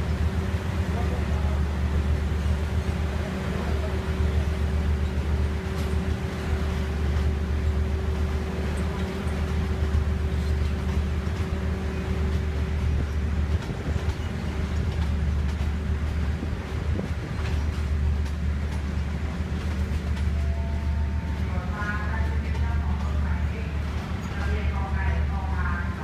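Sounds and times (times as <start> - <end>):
train running hum and hiss: 0.0 - 26.0.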